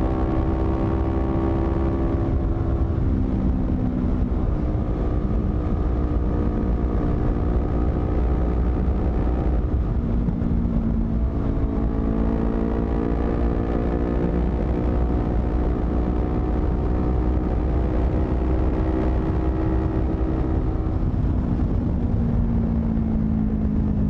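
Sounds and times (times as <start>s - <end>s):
motorcycle engine revving: 0.0s - 21.8s
low rumble: 2.1s - 24.0s.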